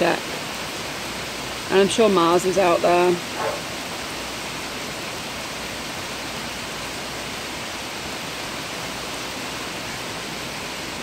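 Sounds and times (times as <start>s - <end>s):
heavy rain downpour: 0.0s - 11.0s.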